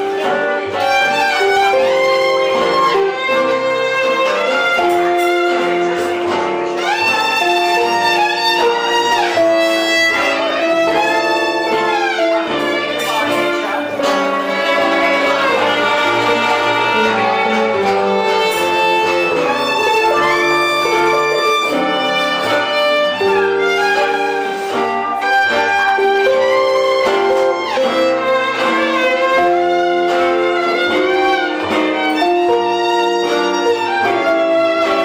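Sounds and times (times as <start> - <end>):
sustained band accompaniment: 0.0 - 35.0
violin playing wavering melody: 0.0 - 35.0.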